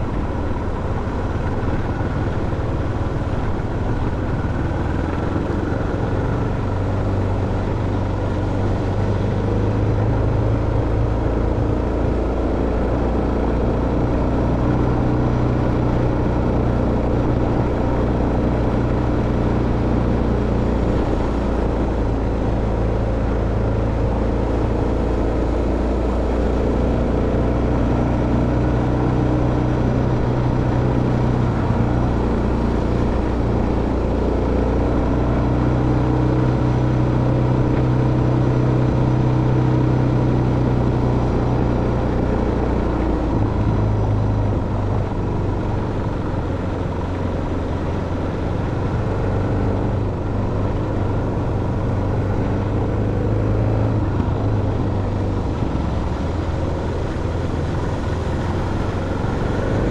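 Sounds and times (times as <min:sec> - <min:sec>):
road noise: 0:00.0 - 0:59.9
vehicle engine running: 0:00.0 - 0:59.9.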